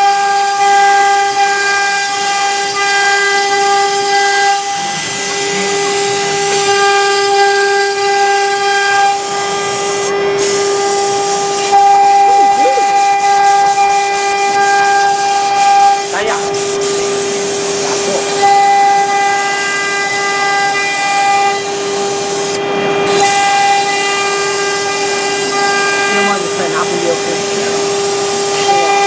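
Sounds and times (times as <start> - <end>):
router spindle whine: 0.0 - 29.0.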